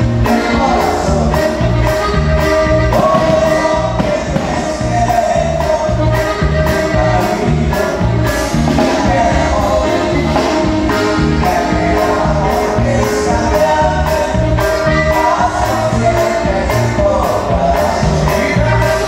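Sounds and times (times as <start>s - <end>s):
accordion: 0.0s - 19.0s
bajo sexto guitar: 0.0s - 19.0s
bass notes: 0.0s - 19.0s
man singing: 0.0s - 19.0s
steady drum beat: 0.0s - 19.0s.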